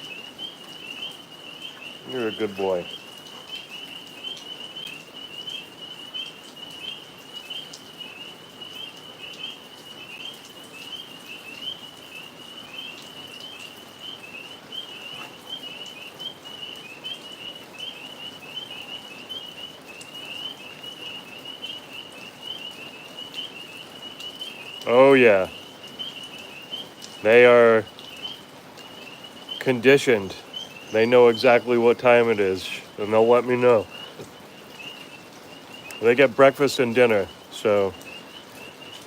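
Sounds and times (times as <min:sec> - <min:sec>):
tree frogs chirping: 0:00.0 - 0:39.0.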